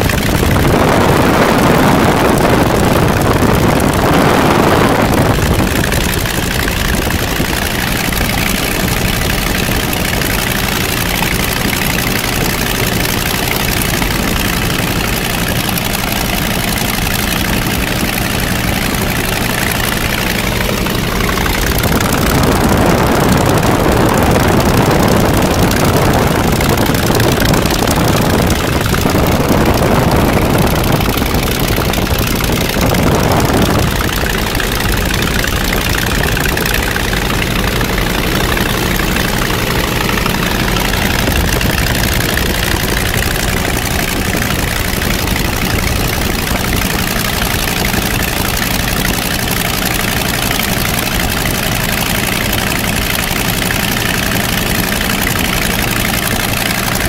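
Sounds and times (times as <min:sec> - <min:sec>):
wind rushing over microphone: 0:00.0 - 0:16.4, 0:17.3 - 0:49.3
radial aircraft engine running: 0:00.0 - 0:57.0.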